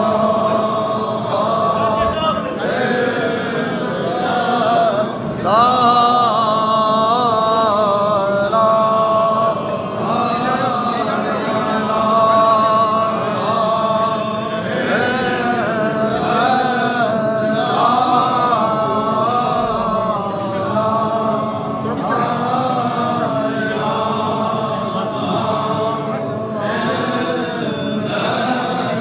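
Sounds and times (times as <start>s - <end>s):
crowd of men chanting: 0.0s - 29.0s.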